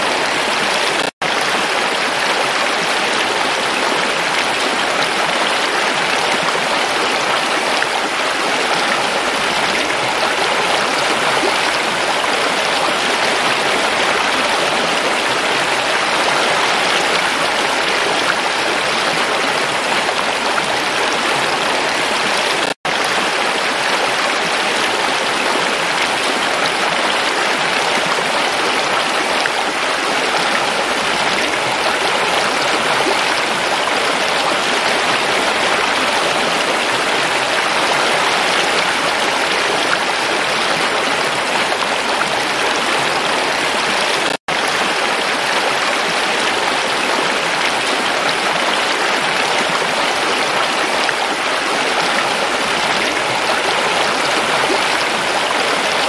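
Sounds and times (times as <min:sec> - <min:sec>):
stream rushing over stones: 0:00.0 - 0:56.0.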